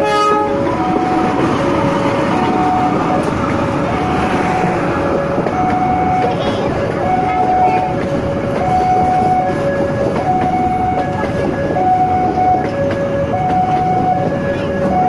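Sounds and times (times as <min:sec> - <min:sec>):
train coaches rolling past: 0:00.0 - 0:15.0
two-tone electronic warning signal: 0:00.0 - 0:15.0.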